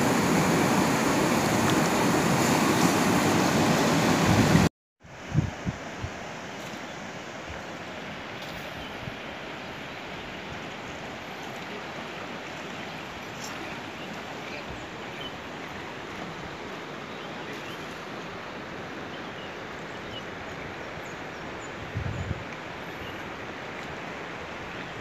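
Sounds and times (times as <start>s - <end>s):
river rushing over stones: 0.0s - 25.0s.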